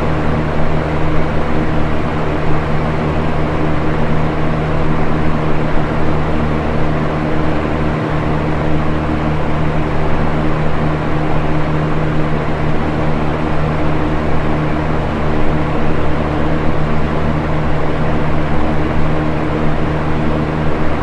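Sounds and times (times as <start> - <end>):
box fan running: 0.0 - 21.0.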